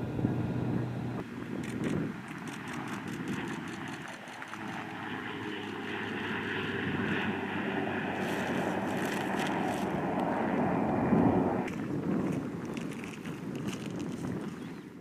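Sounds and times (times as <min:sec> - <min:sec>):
propeller engine running: 0:00.0 - 0:15.0.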